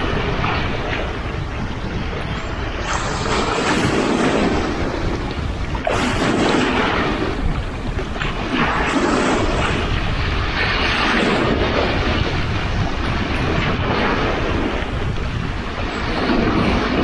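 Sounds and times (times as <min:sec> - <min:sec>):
sea waves washing on shore: 0:00.0 - 0:17.0
wind rumbling on microphone: 0:00.0 - 0:17.0.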